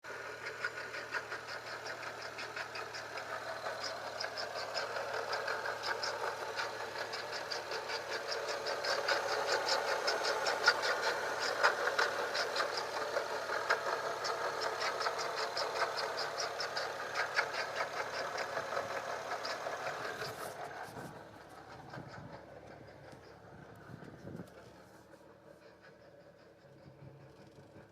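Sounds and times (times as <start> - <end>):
car engine running: 0.1 - 27.9.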